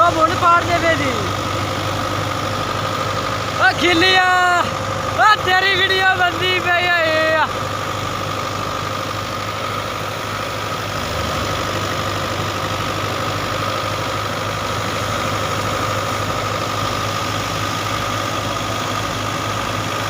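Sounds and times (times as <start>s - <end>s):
harvest machinery running: 0.0s - 20.0s.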